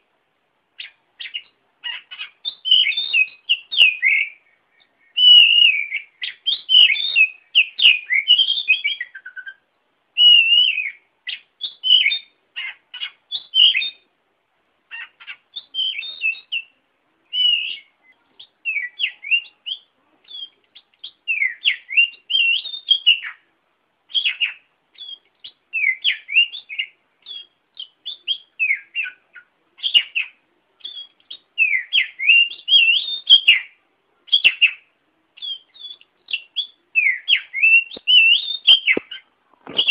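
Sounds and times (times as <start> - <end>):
songbird whistles and chirps: 0.8 - 14.1, 14.9 - 39.9.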